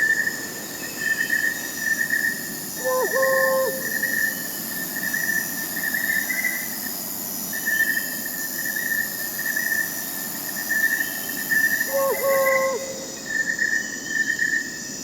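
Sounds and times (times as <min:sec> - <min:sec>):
crickets chirring: 0:00.0 - 0:15.0
high insect trill: 0:00.0 - 0:15.0.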